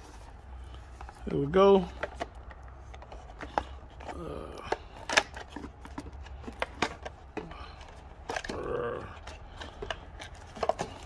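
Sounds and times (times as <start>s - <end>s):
cardboard and plastic packaging handled: 0.0s - 11.0s.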